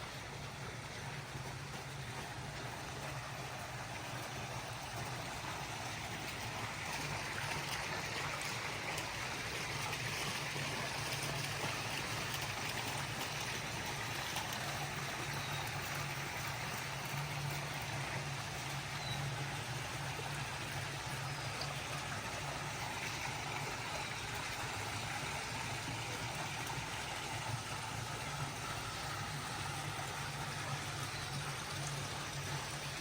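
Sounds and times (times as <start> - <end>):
low steady hum: 0.0 - 33.0
running water rushing: 0.0 - 33.0.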